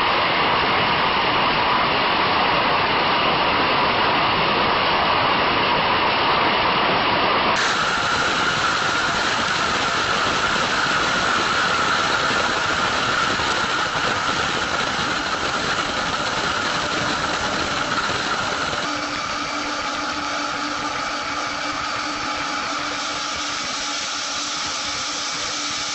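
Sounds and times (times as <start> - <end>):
jet engines at high power: 0.0 - 25.9
steady hum: 0.0 - 25.9.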